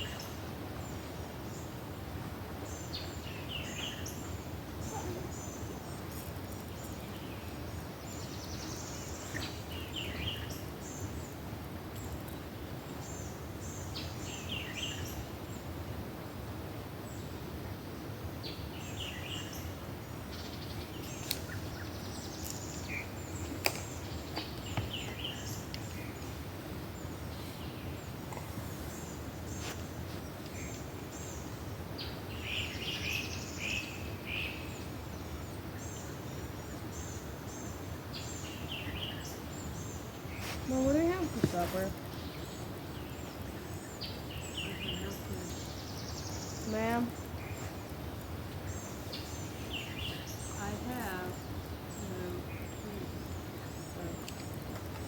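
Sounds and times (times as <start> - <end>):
low background noise: 0.0 - 55.0
birds calling: 2.6 - 15.6, 18.4 - 55.0.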